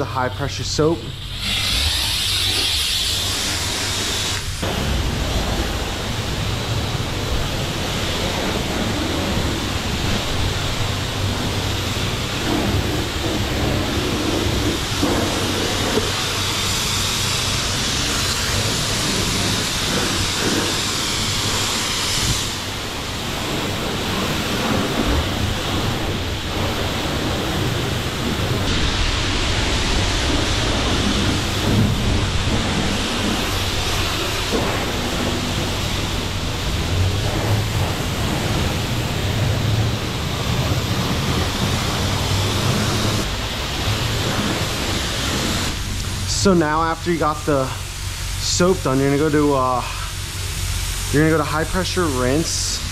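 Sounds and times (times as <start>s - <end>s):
high-pressure spray hissing on car: 0.2s - 52.9s.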